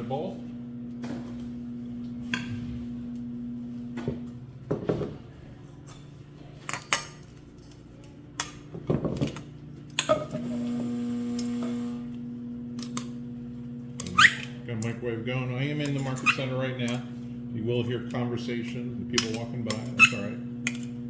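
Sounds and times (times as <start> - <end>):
microwave humming: 0.0 - 21.0.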